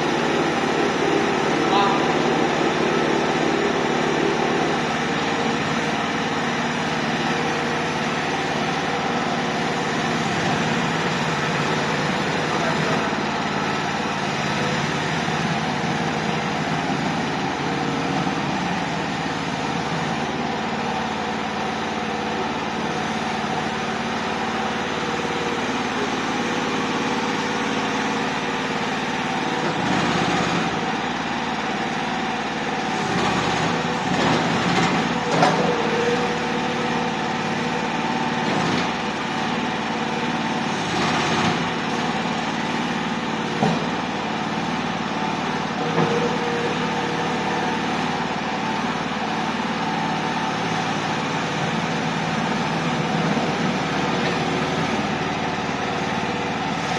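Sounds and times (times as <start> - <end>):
small loader engine running: 0.0 - 56.9.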